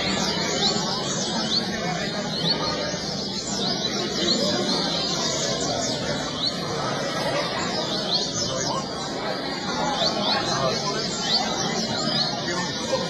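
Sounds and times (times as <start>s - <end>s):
background murmur: 0.0s - 13.0s
bird chirping song: 0.0s - 13.0s.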